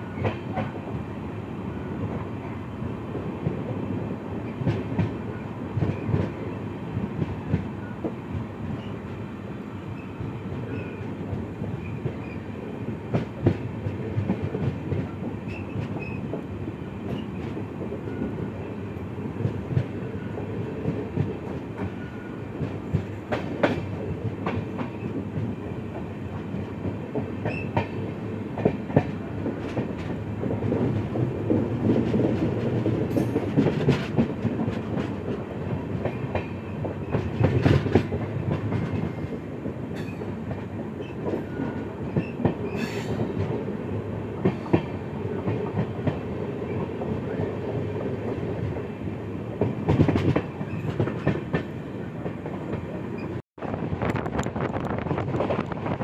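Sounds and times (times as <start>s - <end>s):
train wheels rumbling: 1.8s - 56.0s.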